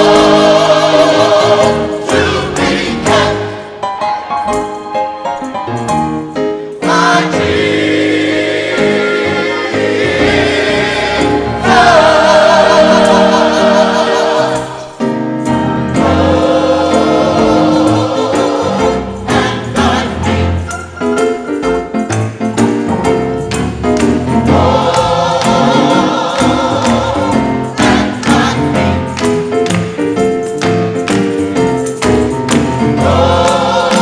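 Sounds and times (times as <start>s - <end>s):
gospel choir singing: 0.0s - 5.1s, 6.8s - 21.6s, 23.5s - 34.0s.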